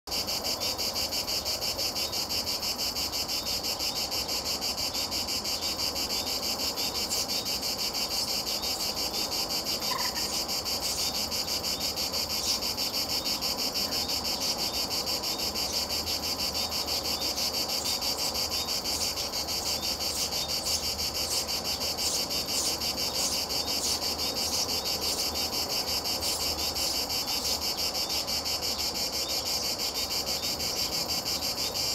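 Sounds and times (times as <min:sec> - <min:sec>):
insects chirring: 0:00.1 - 0:31.9.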